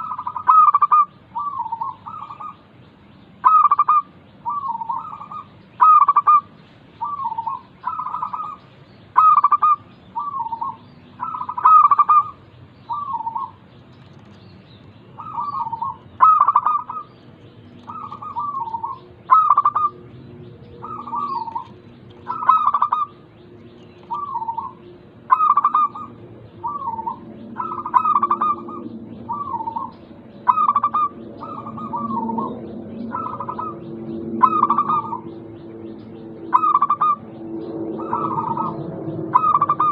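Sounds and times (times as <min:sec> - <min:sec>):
doves cooing: 0:00.0 - 0:02.6, 0:03.4 - 0:08.6, 0:09.2 - 0:14.4, 0:15.2 - 0:39.9.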